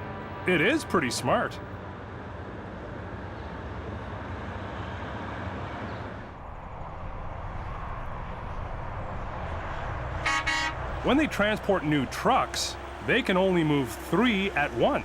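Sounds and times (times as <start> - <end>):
truck engine drone: 0.0 - 15.0
tyre and road noise: 0.0 - 15.0.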